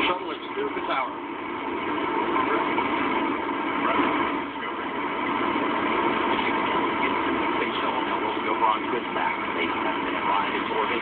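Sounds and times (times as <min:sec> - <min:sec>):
rocket engines rushing roar: 0:00.0 - 0:11.0.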